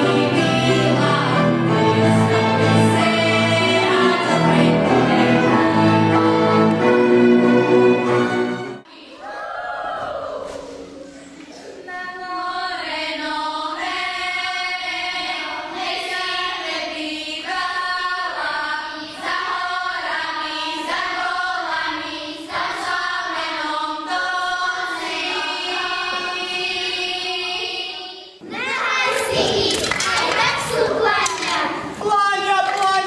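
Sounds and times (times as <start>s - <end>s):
girls singing together: 0.0s - 6.9s, 8.8s - 32.5s.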